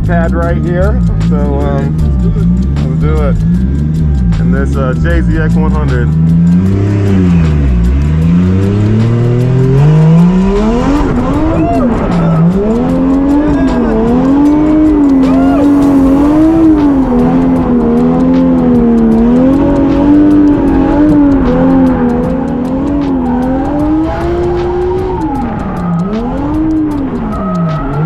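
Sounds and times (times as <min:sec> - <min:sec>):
car engine at high revs: 0:00.0 - 0:28.0.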